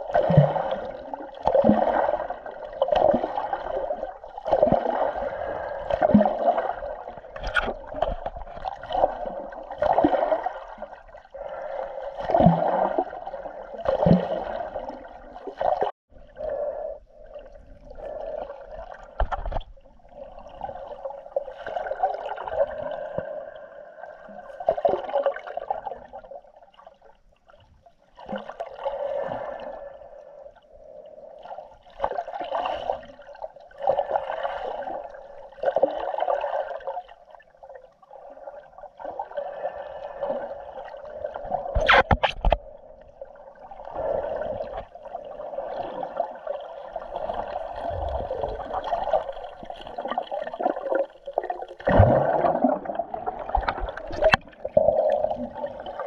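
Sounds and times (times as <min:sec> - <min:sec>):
underwater sloshing and gurgling: 0:00.0 - 0:56.0.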